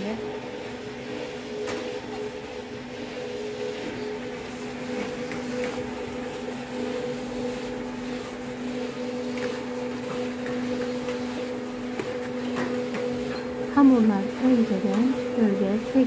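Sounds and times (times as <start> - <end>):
dough rounder motor hum: 0.0 - 16.0.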